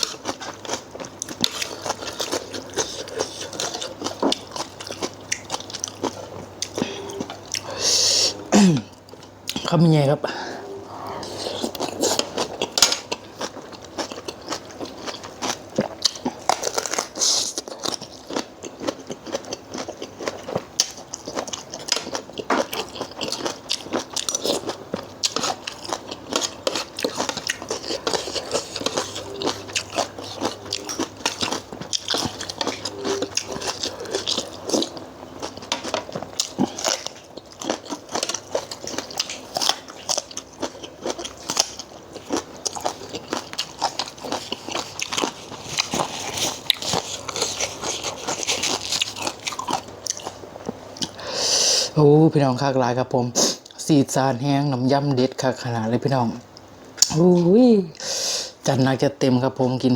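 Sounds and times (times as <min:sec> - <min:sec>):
person chewing crunchy food: 0:00.0 - 0:09.7, 0:10.5 - 0:52.0.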